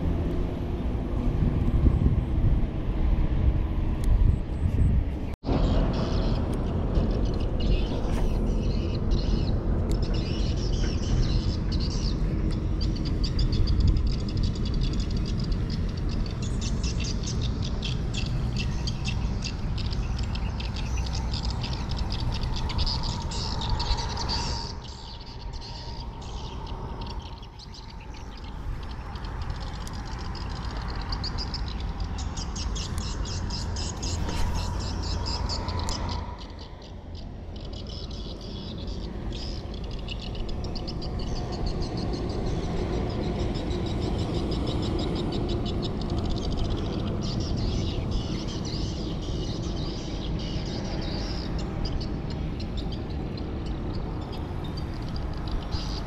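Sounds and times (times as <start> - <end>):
steady low rumble: 0.0 - 50.5
birds chirping: 4.4 - 56.0.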